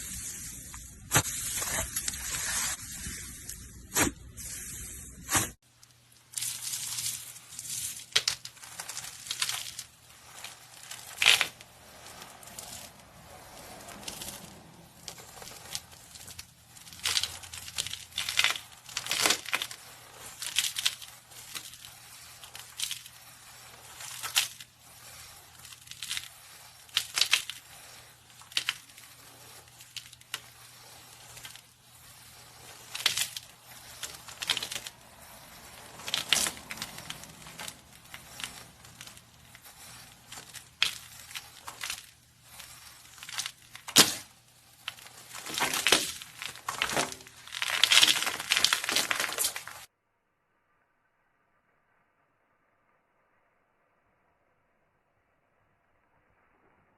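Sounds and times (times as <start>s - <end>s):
slime squelching: 0.0s - 49.8s.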